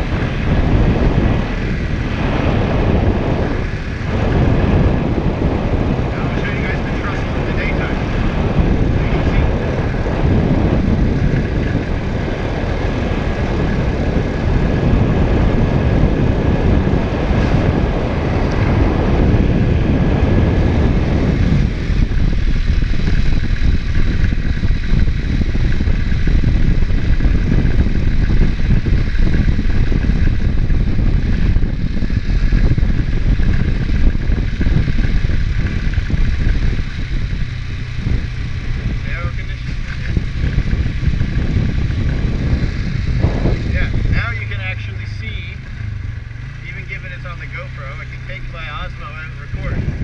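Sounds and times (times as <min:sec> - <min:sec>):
atv engine rumbling: 0:00.0 - 0:50.0.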